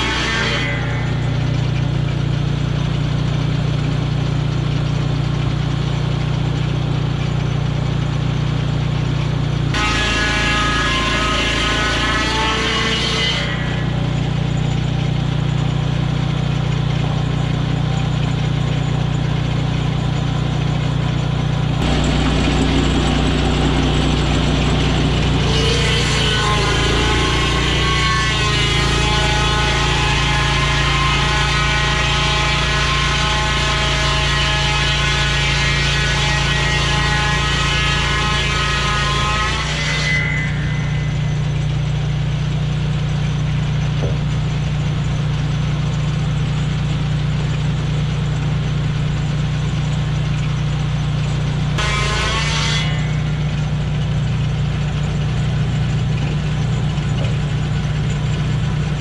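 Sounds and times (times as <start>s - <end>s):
circular saw whining: 0.0s - 59.0s
petrol engine drone: 0.0s - 59.0s.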